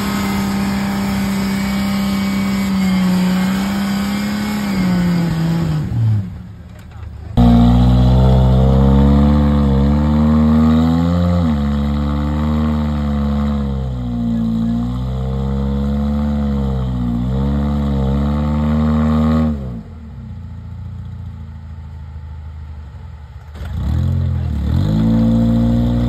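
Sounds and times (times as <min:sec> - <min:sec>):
buggy engine revving: 0:00.0 - 0:26.0.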